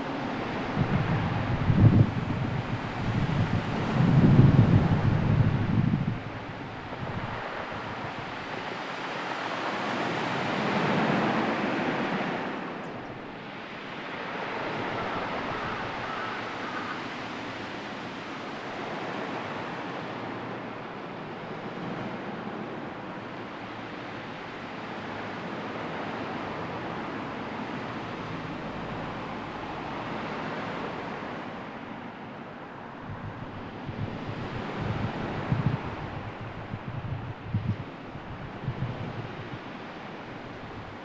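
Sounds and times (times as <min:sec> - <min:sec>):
sea surf washing ashore: 0:00.0 - 0:41.0.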